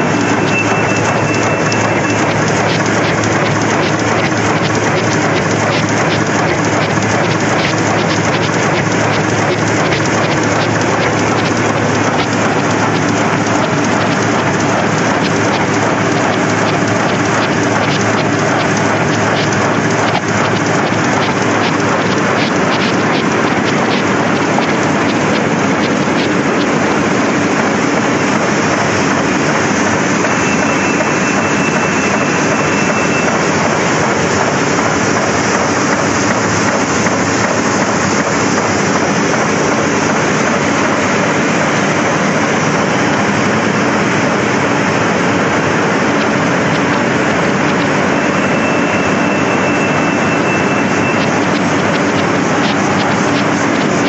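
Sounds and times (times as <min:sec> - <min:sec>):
printing press mechanical rattle: 0:00.0 - 0:54.0.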